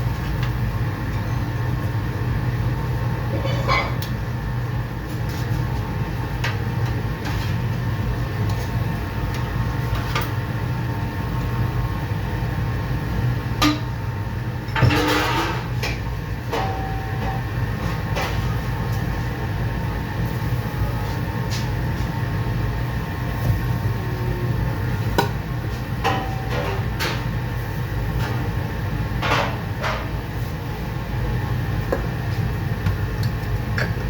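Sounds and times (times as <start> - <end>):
kitchen equipment humming: 0.0 - 34.0.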